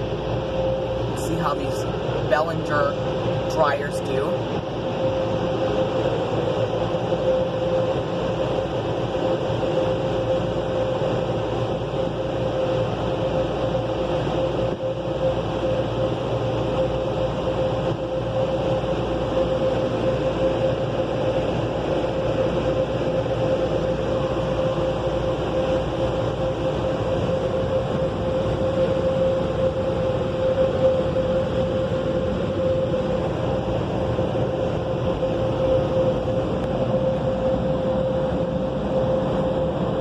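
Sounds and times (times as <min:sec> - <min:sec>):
constant whine: 0:00.0 - 0:40.0
dryer blowers rushing air: 0:00.0 - 0:40.0.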